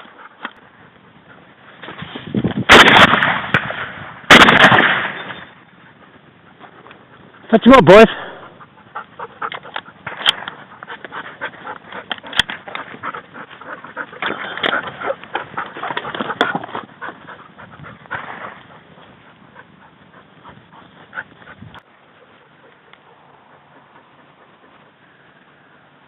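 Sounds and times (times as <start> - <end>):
dog panting: 0.0 - 1.6, 5.7 - 25.1.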